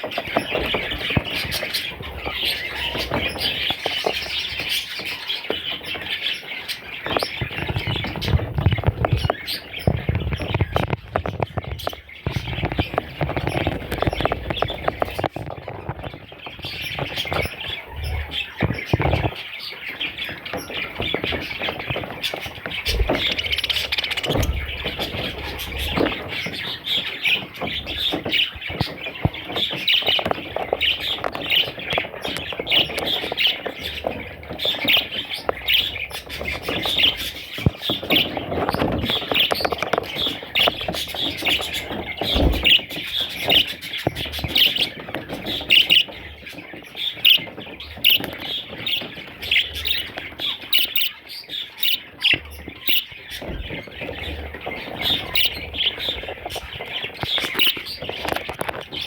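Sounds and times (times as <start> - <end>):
budgerigars chirping and squawking: 0.0 - 59.0.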